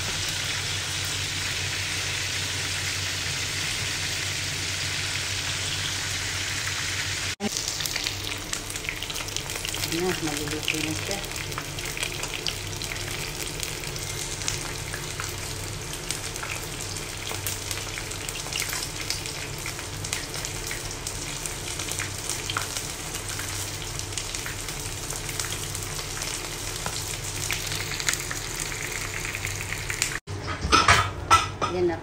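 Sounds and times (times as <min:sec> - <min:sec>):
chicken sizzling in hot oil: 0:00.0 - 0:30.3.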